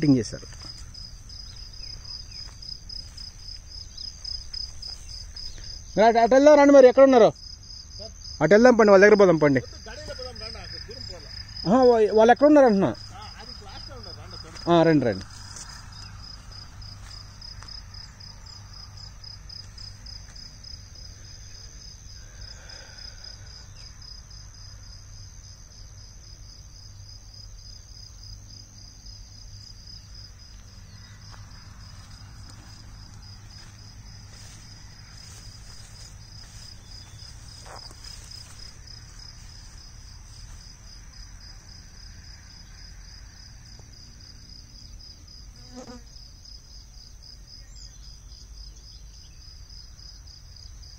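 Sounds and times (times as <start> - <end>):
insects chirping in a trill: 0.0 - 50.9.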